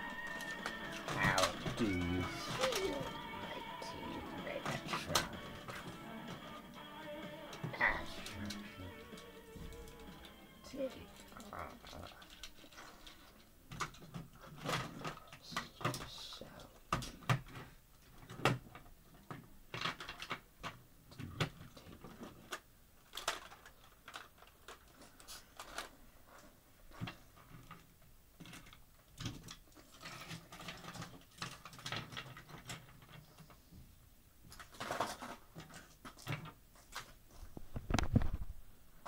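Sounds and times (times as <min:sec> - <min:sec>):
plastic figures clicking and rustling: 0:00.0 - 0:33.6, 0:34.4 - 0:38.5.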